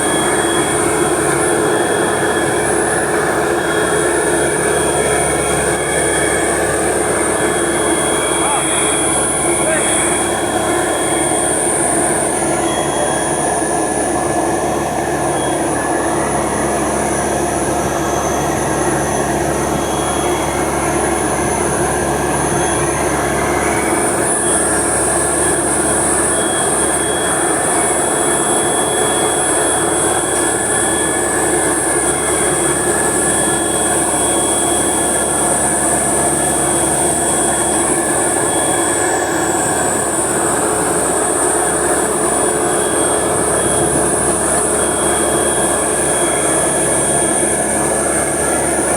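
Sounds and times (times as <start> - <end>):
heavy machinery din: 0.0 - 48.9
high-pitched whining tones: 0.0 - 48.9.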